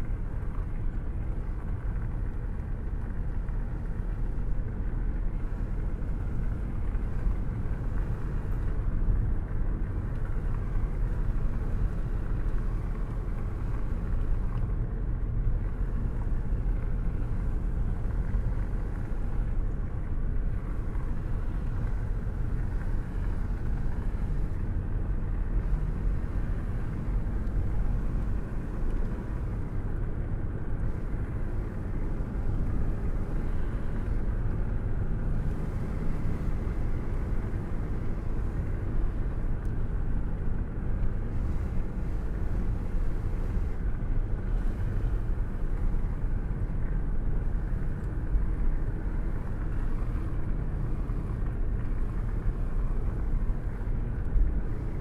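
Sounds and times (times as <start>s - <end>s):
car engine rumble: 0.0s - 55.0s
tyre and road noise: 0.0s - 55.0s.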